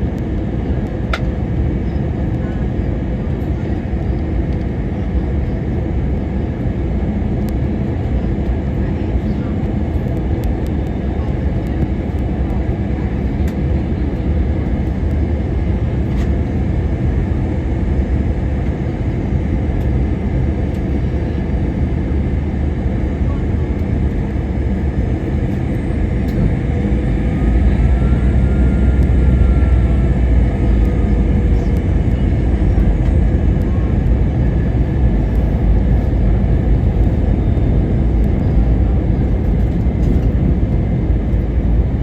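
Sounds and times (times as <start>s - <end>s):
airplane engines rumbling: 0.0s - 42.0s.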